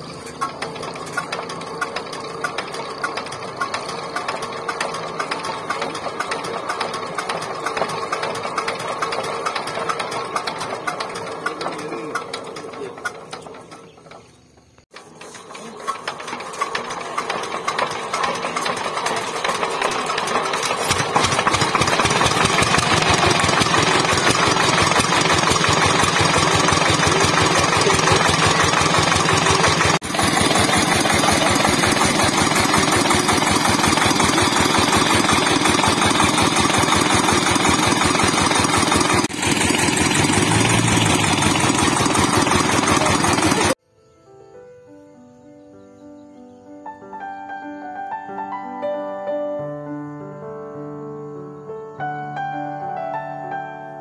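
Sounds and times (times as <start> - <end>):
diesel engine starting and chugging: 0.0 - 43.8.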